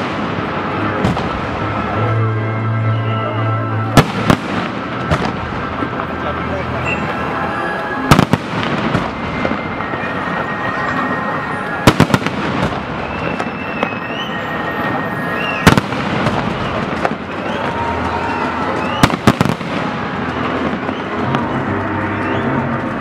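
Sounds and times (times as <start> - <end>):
fireworks bangs: 0.0 - 2.2, 3.9 - 23.0
fireworks crackling: 0.0 - 2.2, 3.8 - 23.0
rising fireworks whistles: 2.8 - 23.0.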